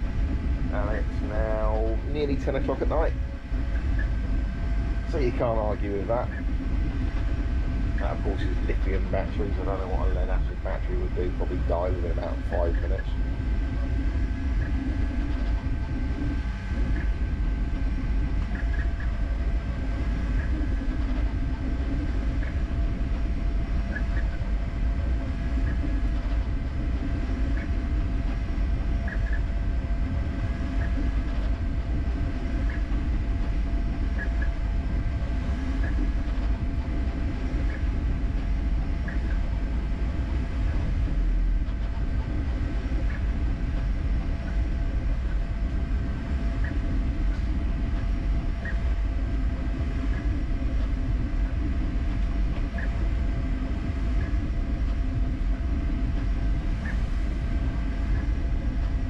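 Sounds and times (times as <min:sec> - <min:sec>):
printer motors and fans humming: 0:00.0 - 0:59.0.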